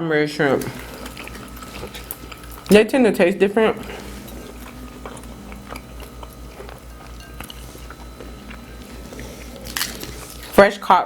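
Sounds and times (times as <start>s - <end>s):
steady low hum: 0.0s - 11.0s
chewing with wet mouth clicks: 0.5s - 2.9s, 3.8s - 10.6s.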